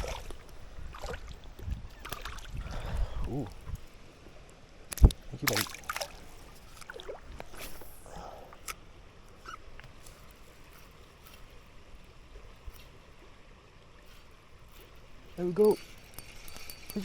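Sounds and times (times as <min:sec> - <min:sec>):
faint running river water: 0:00.0 - 0:17.0.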